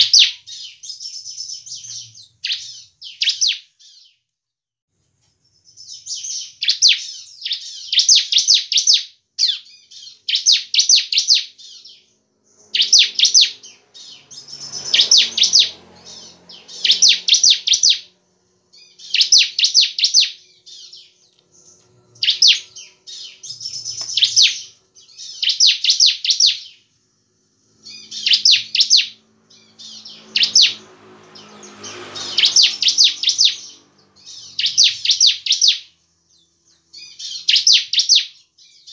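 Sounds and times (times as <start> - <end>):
bird singing chattering notes: 5.6 - 26.9, 27.7 - 38.9.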